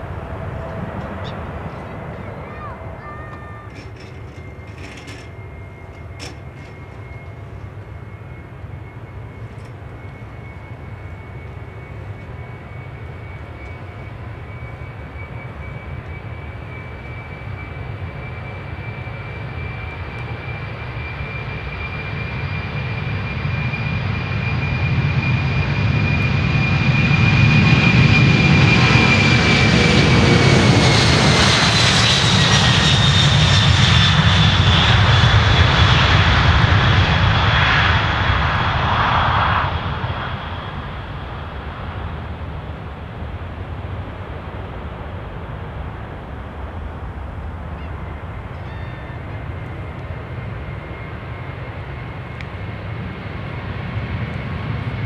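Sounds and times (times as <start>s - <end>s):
jet engines whining at takeoff: 0.0s - 55.0s.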